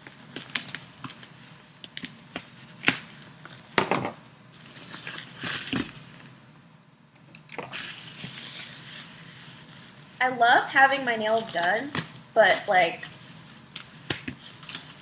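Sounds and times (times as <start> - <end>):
packaging rustling and tearing: 0.0 - 3.8, 4.5 - 6.4, 7.7 - 10.2, 10.8 - 15.0.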